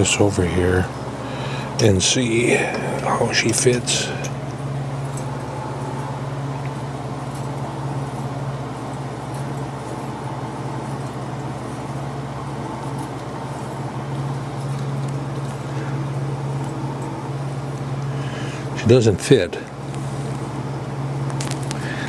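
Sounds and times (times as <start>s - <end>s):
lathe humming: 0.0s - 22.0s.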